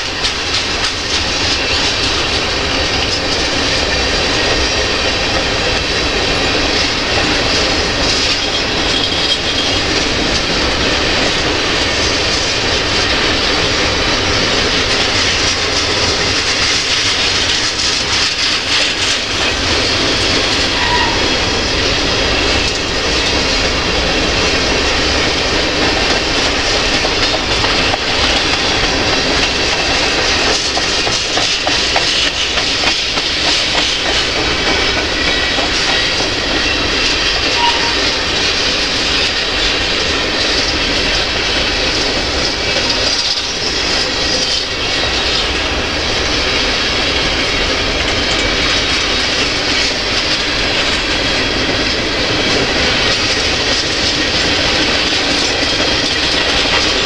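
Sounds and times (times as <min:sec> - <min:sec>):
freight cars rumbling and rattling: 0:00.0 - 0:57.0
wheels clicking over rail joints: 0:00.0 - 0:57.0.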